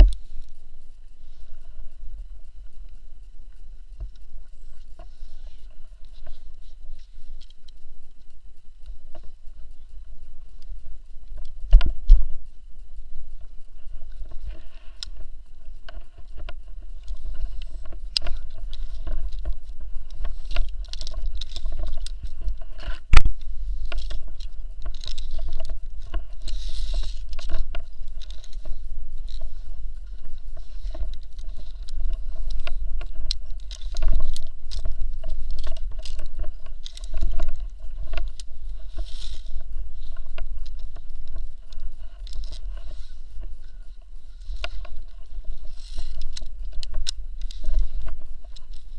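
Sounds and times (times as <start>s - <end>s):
carabiners and pulley clicking: 0.0s - 48.9s
low rumble: 0.0s - 48.9s.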